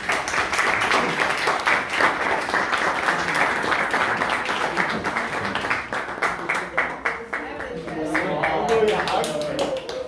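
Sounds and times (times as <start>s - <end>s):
students applauding: 0.0s - 10.0s.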